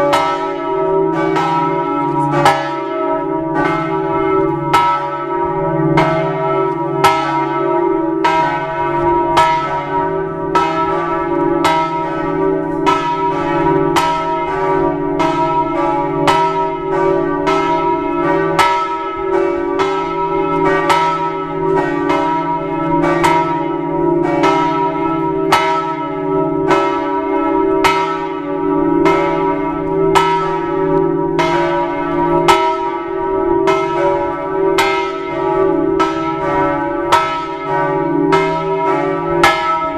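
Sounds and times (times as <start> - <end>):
church bells ringing: 0.0 - 39.9
low hum of bells: 0.0 - 39.9.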